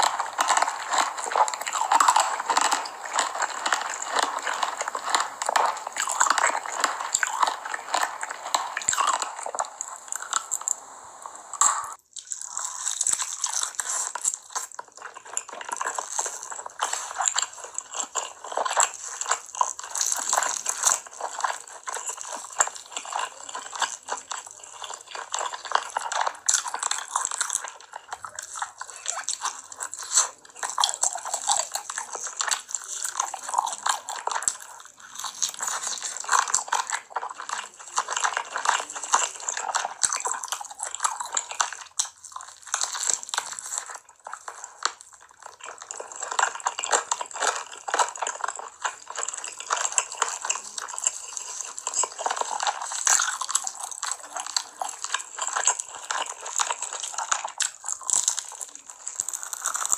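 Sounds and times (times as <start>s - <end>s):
chewing with crisp clicks: 0.0s - 59.9s.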